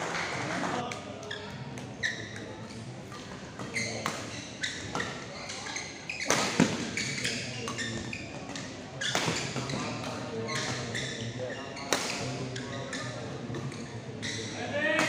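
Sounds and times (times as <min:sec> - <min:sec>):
shoes squeaking on court floor: 0:00.1 - 0:14.7.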